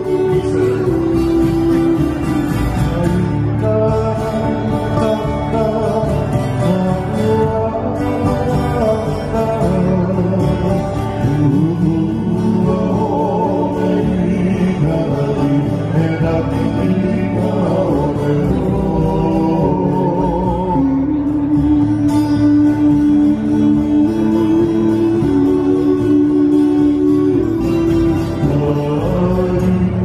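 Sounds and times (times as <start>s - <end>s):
acoustic guitar: 0.0s - 30.0s
electric bass guitar: 0.0s - 30.0s
ukulele: 0.0s - 30.0s.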